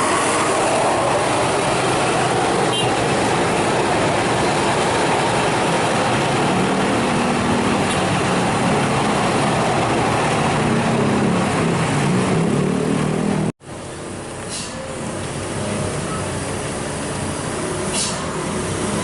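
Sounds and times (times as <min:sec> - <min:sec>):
heavy vehicle engine running: 0:00.0 - 0:19.0
road noise: 0:00.0 - 0:19.0.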